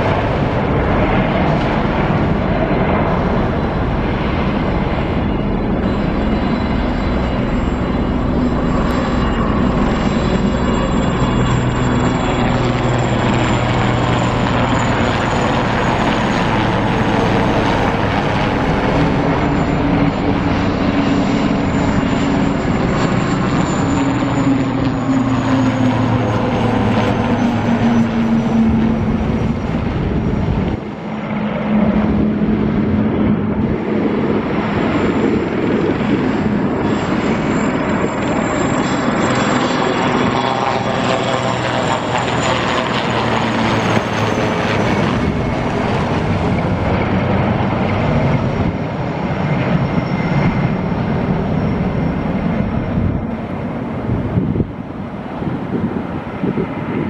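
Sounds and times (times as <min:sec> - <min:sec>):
helicopters flying overhead: 0:00.0 - 0:57.0
high turbine whine: 0:00.0 - 0:57.0.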